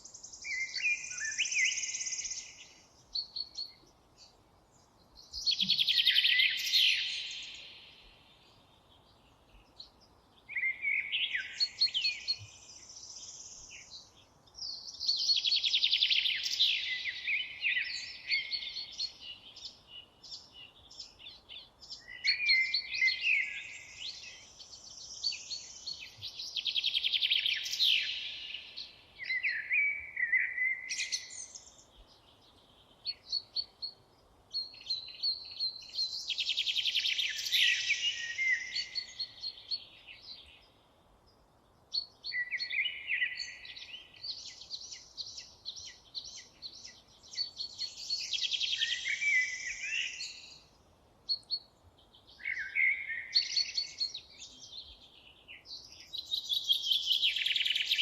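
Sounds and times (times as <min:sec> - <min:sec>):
faint steady hiss: 0:00.0 - 0:58.0
songbirds warbling and trilling: 0:00.0 - 0:58.0.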